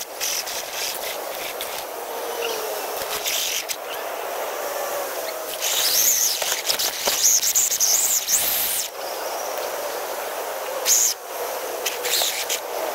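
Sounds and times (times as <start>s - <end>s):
electric motor whining: 0.0s - 12.9s.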